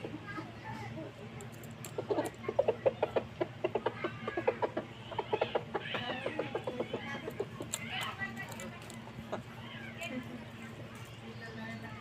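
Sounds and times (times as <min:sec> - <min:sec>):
chickens clucking: 0:00.0 - 0:11.2.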